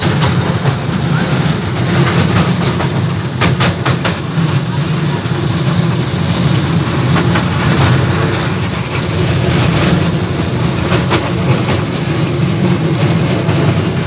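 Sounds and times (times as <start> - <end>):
small train engine humming: 0.0 - 14.0.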